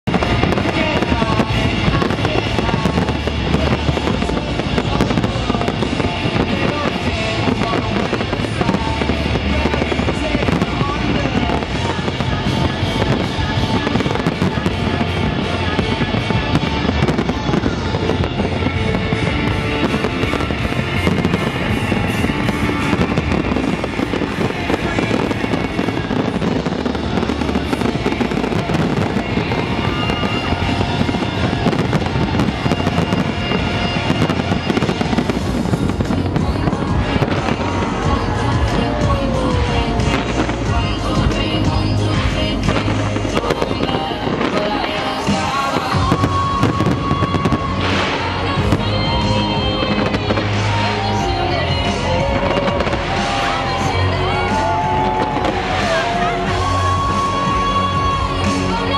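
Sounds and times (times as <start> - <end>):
fireworks bursting and crackling: 0.0 - 58.9
music playing: 0.0 - 58.9.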